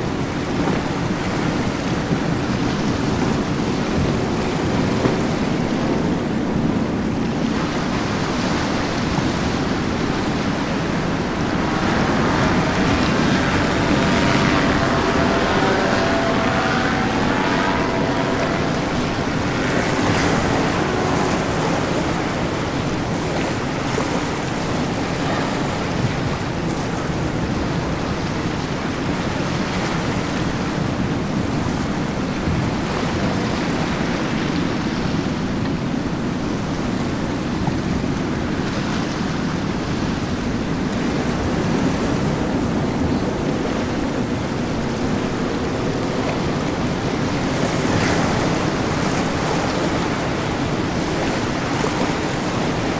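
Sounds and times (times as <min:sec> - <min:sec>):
motor boat running fast: 0:00.0 - 0:52.9
waves and churning water: 0:00.0 - 0:52.9
wind on microphone: 0:00.0 - 0:52.9.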